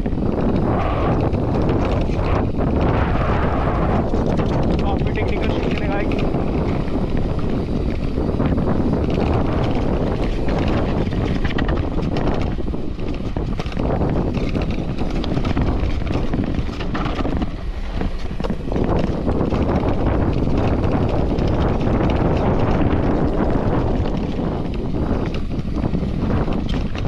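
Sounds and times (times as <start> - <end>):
bike tyres rumbling over dirt: 0.0 - 27.0
wind rushing over microphone: 0.0 - 27.0.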